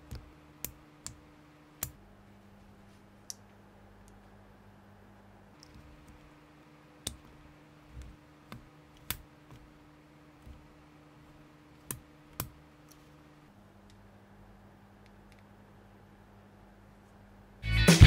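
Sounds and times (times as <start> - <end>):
faint steady hum: 0.0 - 17.8.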